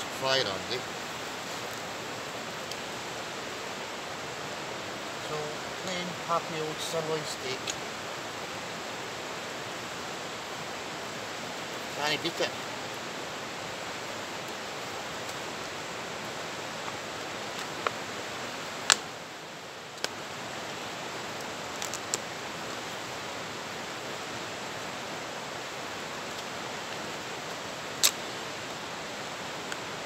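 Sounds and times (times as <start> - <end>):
river rushing over rapids: 0.0 - 30.0.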